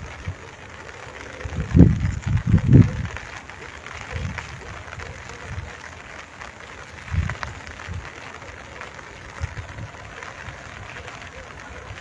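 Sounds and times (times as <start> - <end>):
gentle rain falling: 0.0 - 12.0.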